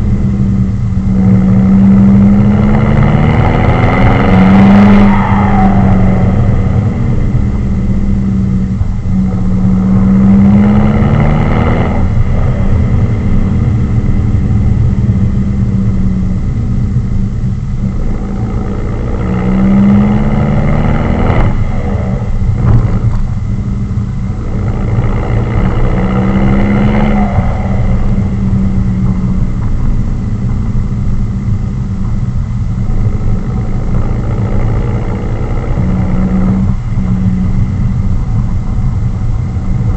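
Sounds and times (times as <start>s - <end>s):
loud engine exhaust drone: 0.0s - 39.9s.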